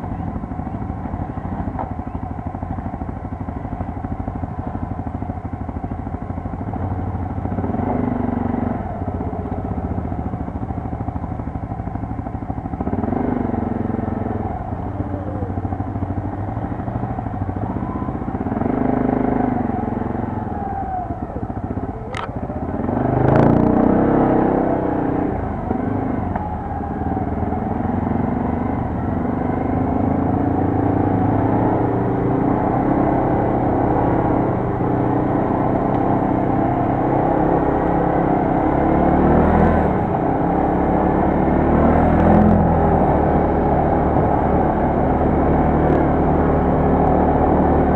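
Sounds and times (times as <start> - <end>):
quad bike engine revving: 6.6 - 10.4, 12.6 - 47.9.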